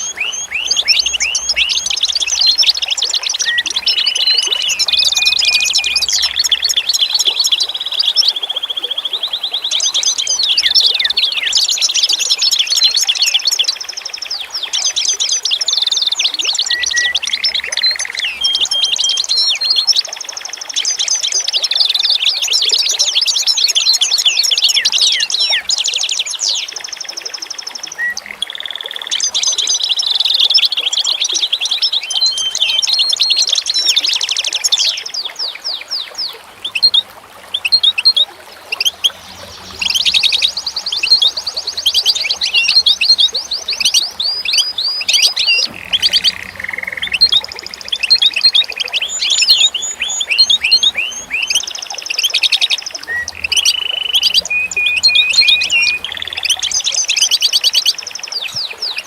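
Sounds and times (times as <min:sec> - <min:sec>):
birds singing: 0:00.0 - 0:59.0.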